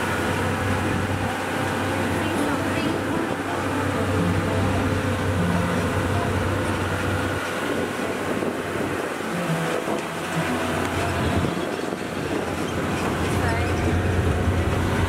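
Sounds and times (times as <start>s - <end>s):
rolling and passing noise: 0.0s - 15.0s
train motor hum: 0.0s - 15.0s.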